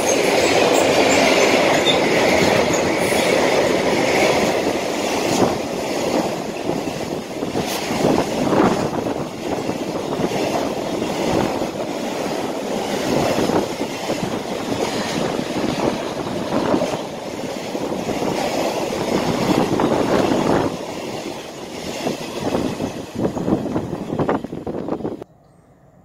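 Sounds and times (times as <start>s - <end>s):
train wheels clattering: 0.0s - 24.5s
steel wheels rumbling on rail: 0.0s - 26.0s.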